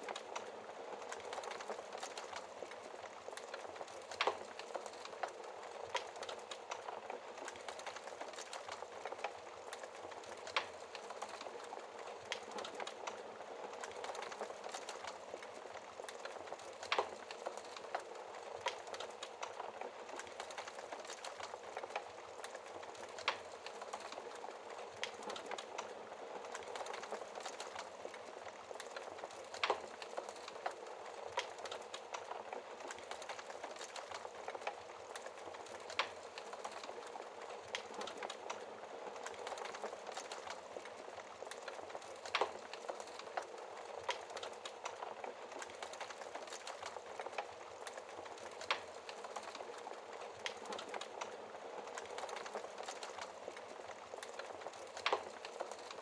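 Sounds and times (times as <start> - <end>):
fire crackles and pops: 0.0 - 56.0.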